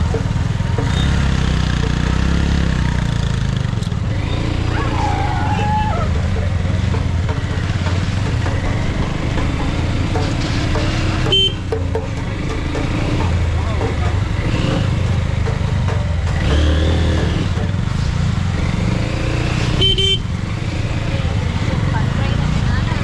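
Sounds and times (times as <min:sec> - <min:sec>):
motorcycle engine rumbling: 0:00.0 - 0:23.0.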